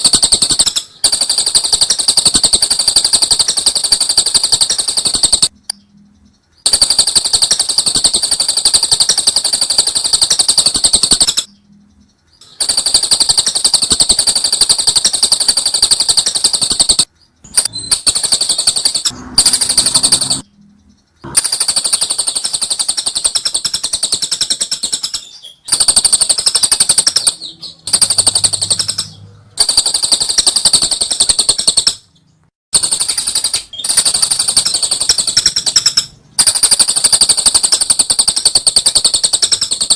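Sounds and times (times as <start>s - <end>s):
bird high-pitched chatter: 0.0s - 39.9s.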